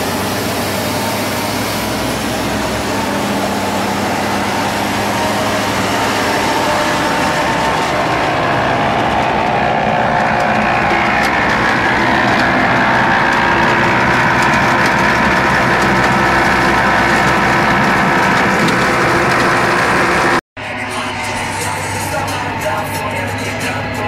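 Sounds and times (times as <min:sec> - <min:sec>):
rock crusher working: 0:00.0 - 0:24.0
tractor engine under load: 0:00.0 - 0:24.0.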